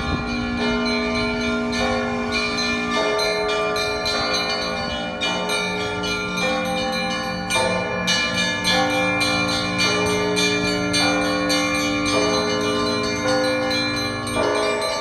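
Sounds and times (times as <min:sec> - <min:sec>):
deep bells ringing: 0:00.0 - 0:15.0.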